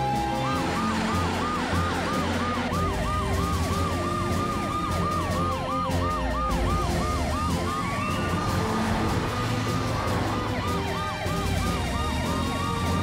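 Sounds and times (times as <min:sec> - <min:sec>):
background music: 0:00.0 - 0:13.0
cartoon sirens yelping: 0:00.0 - 0:13.0
sirens wailing: 0:00.0 - 0:13.0.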